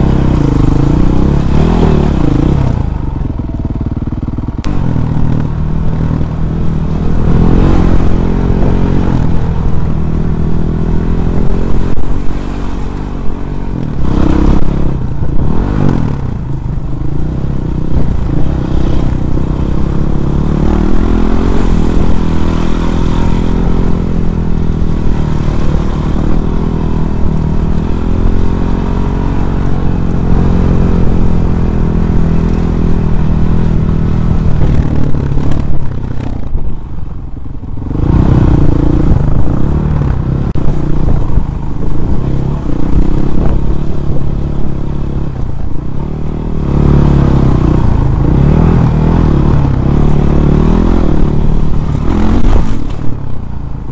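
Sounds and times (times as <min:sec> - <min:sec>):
dirt bike engine revving: 0:00.0 - 0:16.4, 0:17.1 - 0:36.4, 0:37.8 - 0:53.2.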